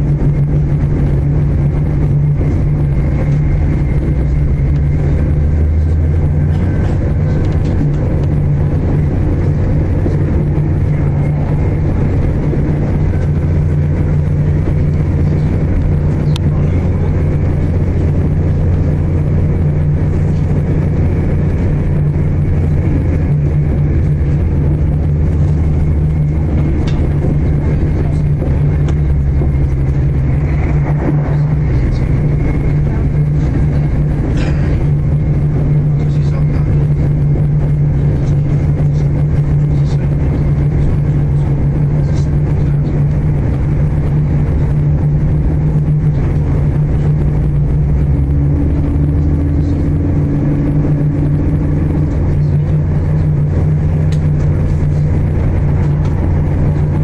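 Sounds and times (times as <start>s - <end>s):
diesel engine drone: 0.0s - 57.0s
train wheel and rail noise: 0.0s - 57.0s.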